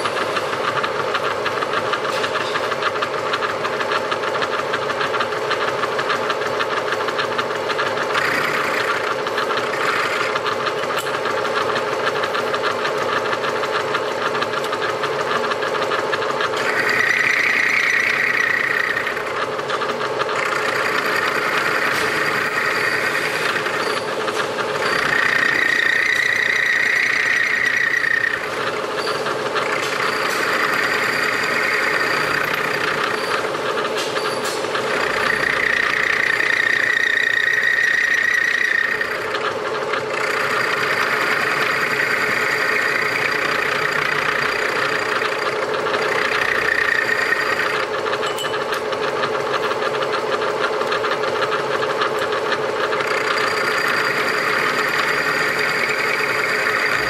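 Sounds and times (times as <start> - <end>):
milling spindle humming: 0.0 - 57.0
shrill cutting whine: 0.0 - 57.0.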